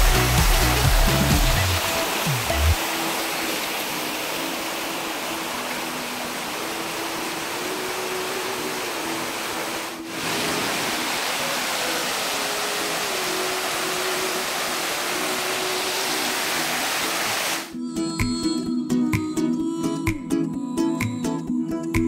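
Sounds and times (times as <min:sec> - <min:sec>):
water rushing over rocks: 0:00.0 - 0:17.7.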